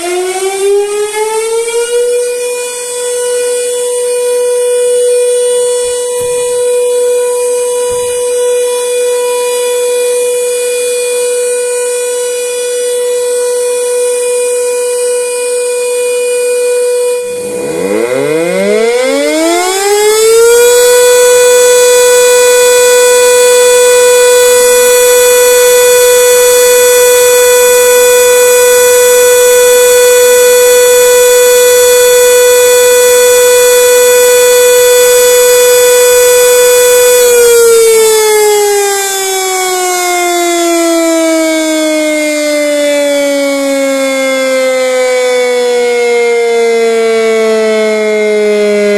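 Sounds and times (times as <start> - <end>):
electric siren tone: 0.0 - 48.9.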